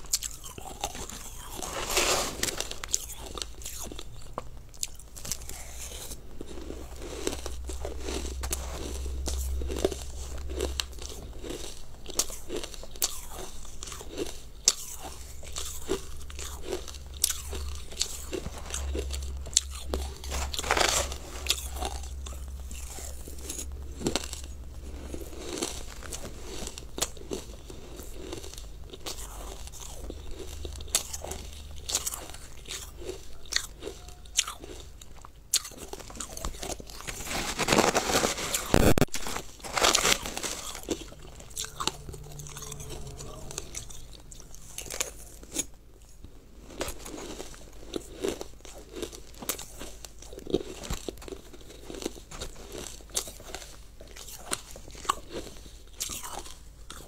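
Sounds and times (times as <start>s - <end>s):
person crunching icy food: 0.0s - 57.0s.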